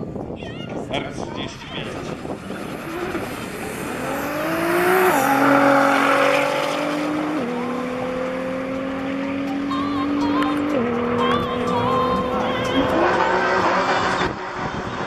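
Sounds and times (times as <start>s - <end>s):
car engine accelerating hard: 1.8s - 15.0s.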